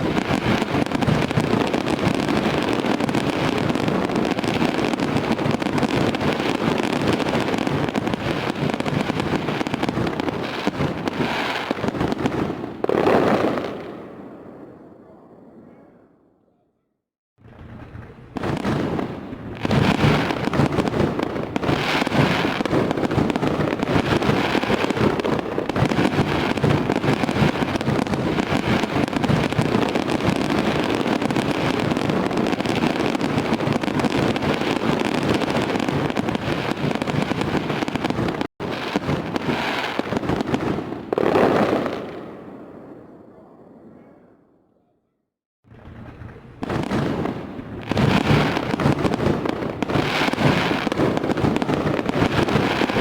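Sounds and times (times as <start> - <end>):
fireworks popping and banging: 0.0 - 14.2, 17.4 - 42.5, 45.7 - 53.0.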